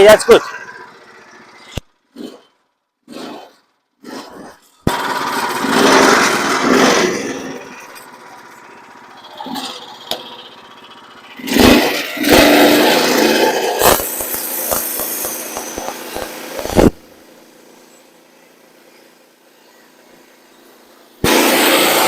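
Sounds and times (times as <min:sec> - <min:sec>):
small petrol engine running: 0:00.0 - 0:22.0.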